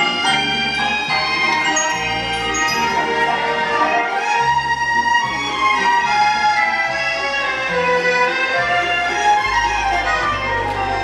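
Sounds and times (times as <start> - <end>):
accordion: 0.0 - 11.0.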